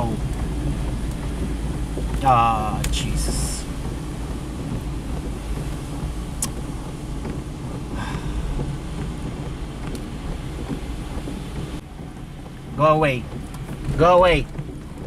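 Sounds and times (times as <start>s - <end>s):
car engine and road noise: 0.0s - 15.0s
tyre spray on wet road: 0.0s - 15.0s
windscreen wipers sweeping: 0.0s - 15.0s.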